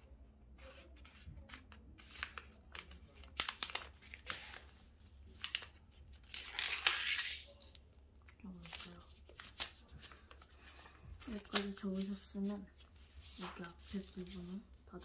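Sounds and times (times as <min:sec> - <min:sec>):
paper rustling and crinkling: 0:00.5 - 0:15.0.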